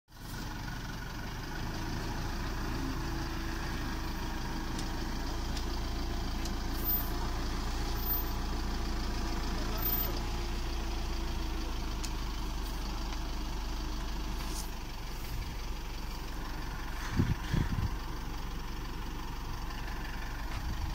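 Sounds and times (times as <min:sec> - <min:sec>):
diesel engine idling: 0:00.1 - 0:20.9.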